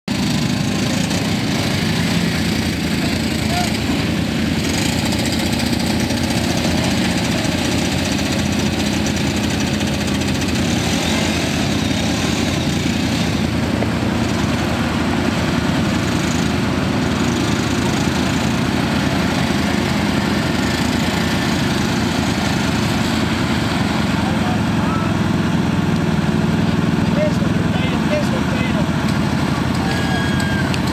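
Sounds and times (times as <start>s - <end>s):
quad bike engines running: 0.1s - 30.9s.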